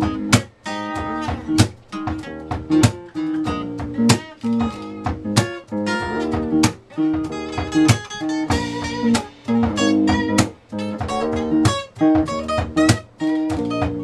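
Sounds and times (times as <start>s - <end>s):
acoustic guitar strumming: 0.0s - 14.0s
sharp percussive hits: 0.0s - 14.0s.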